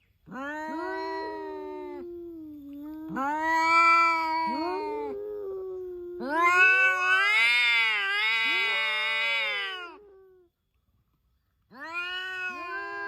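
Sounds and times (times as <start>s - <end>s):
cat yowling: 0.2s - 10.4s, 11.7s - 13.0s.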